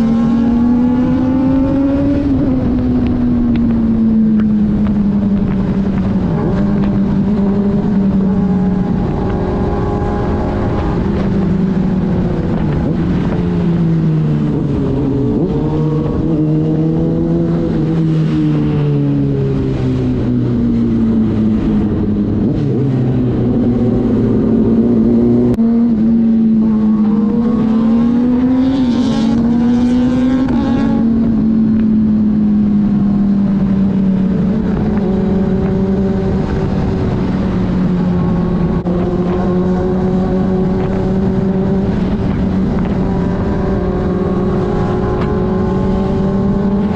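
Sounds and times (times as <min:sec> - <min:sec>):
motorcycle engines cruising: 0:00.0 - 0:46.9.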